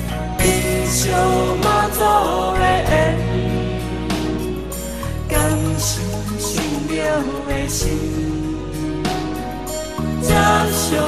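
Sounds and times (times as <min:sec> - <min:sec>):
song with melody: 0:00.0 - 0:11.0.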